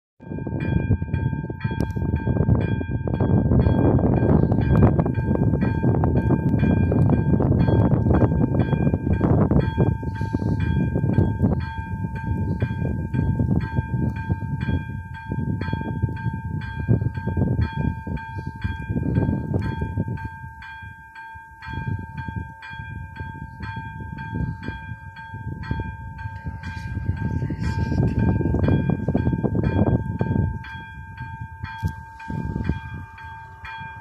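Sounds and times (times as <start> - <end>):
level crossing bell ringing: 0.2 - 34.0
wind rumble on microphone: 0.2 - 34.0.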